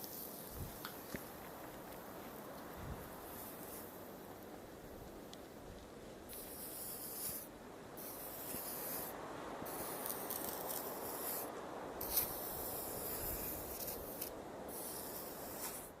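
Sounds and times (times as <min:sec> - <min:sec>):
high hiss: 0:00.0 - 0:05.6, 0:06.2 - 0:16.0
steady rushing noise: 0:00.0 - 0:16.0.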